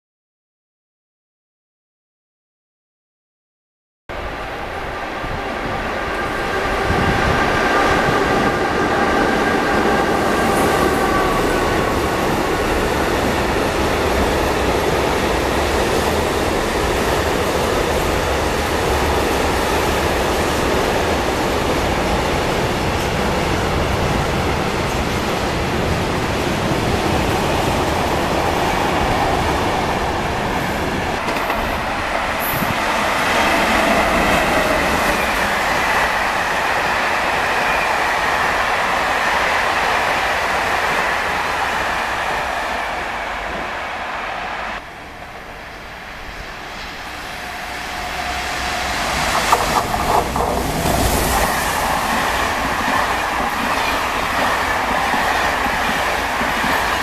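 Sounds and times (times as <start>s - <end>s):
train wheels rumbling on rail: 4.2s - 57.0s.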